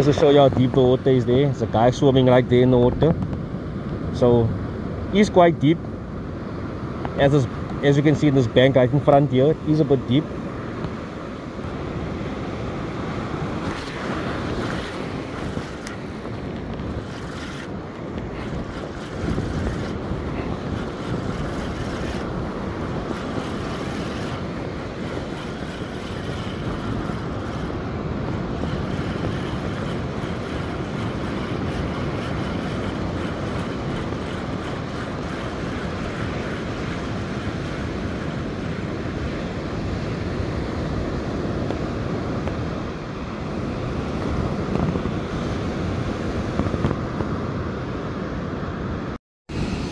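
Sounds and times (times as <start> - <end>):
wind buffeting microphone: 0.0 - 49.9
breaking surf: 6.8 - 47.6.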